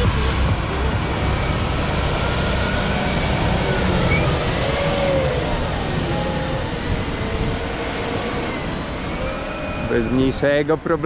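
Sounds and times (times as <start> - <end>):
diesel engine droning: 0.0 - 11.0
faint shifting whines: 0.0 - 11.0.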